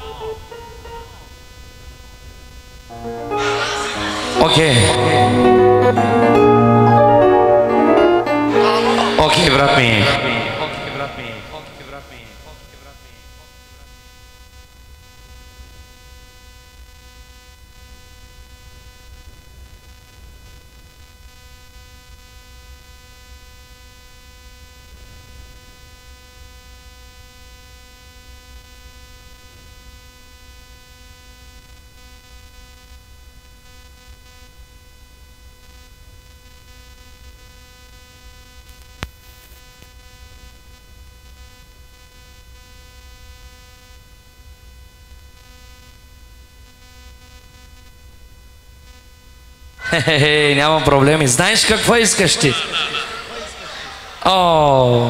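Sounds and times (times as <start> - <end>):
electrical hum and buzz: 0.0 - 54.2.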